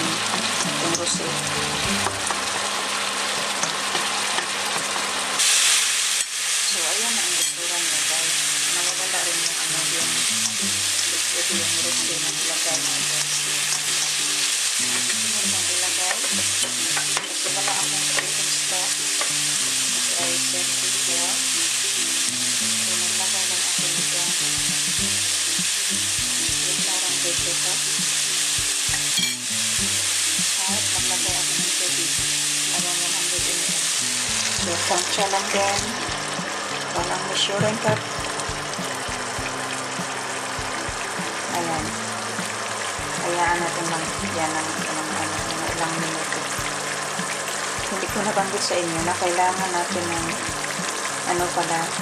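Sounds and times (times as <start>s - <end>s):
vegetables sizzling in a wok: 0.0s - 52.0s.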